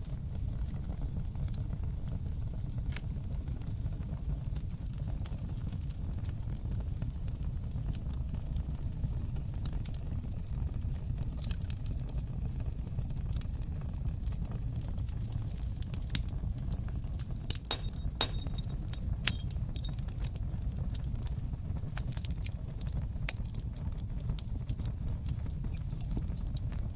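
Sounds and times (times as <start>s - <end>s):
fire crackling and popping: 0.0s - 26.9s
fire rumbling: 0.0s - 26.9s.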